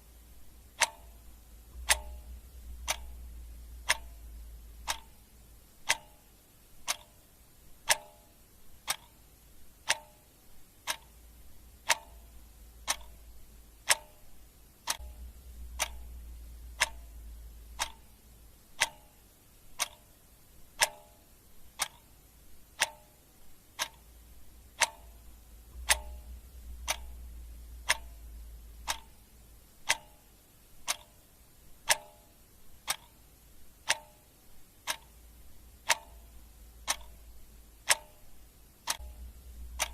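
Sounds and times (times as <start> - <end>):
clock ticking: 0.0 - 39.9
faint low hum: 0.0 - 39.9.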